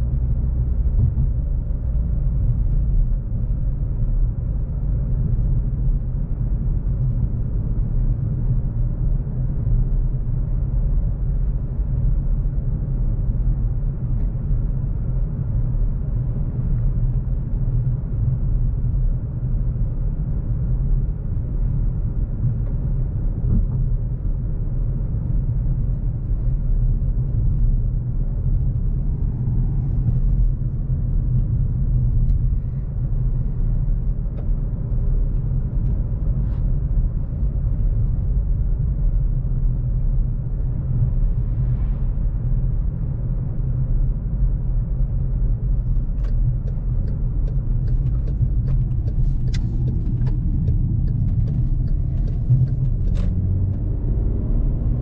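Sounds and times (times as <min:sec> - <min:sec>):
car engine low rumble: 0:00.0 - 0:55.0
road noise: 0:00.0 - 0:55.0.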